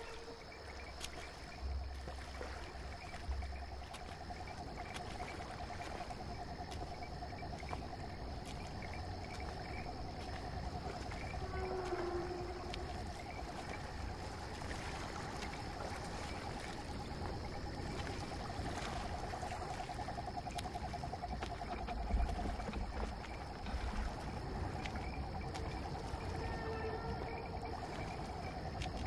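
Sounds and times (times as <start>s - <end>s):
high-pitched insect tone: 0.0s - 29.0s.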